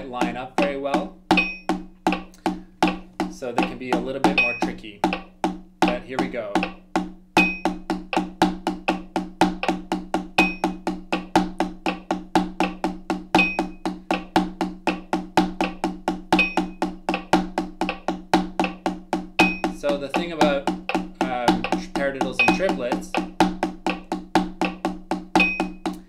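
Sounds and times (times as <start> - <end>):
drumsticks on practice pad: 0.0 - 26.0
metronome beeping: 0.6 - 6.8, 7.4 - 18.8, 19.4 - 24.8, 25.4 - 26.0.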